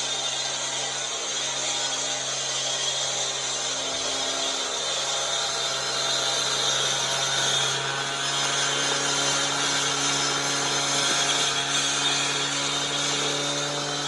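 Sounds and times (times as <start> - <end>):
power saw cutting concrete: 0.0 - 14.0.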